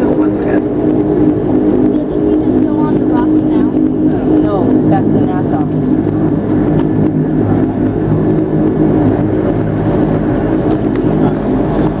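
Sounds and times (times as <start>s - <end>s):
turboprop engine drone: 0.0s - 12.0s.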